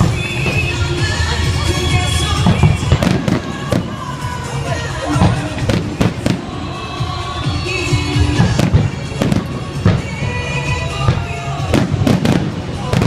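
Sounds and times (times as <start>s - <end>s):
fireworks banging: 0.0s - 13.0s
music playing: 0.0s - 13.0s.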